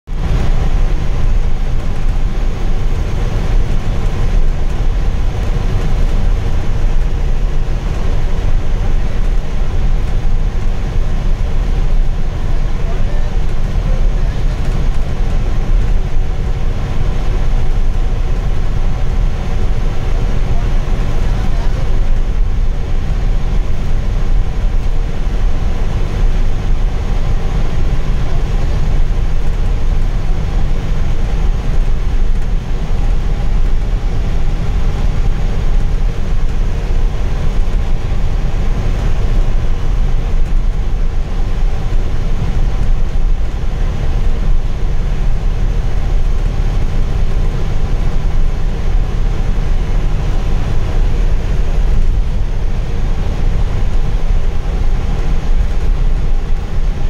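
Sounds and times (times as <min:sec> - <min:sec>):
bus engine drone: 0:00.0 - 0:57.0
road and tyre noise: 0:00.0 - 0:57.0.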